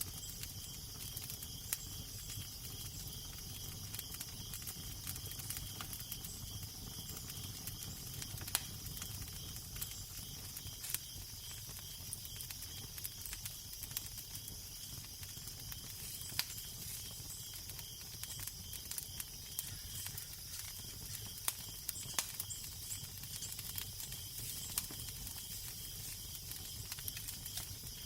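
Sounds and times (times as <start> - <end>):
fire snapping and popping: 0.0 - 28.0
low fire rumble: 0.0 - 28.0.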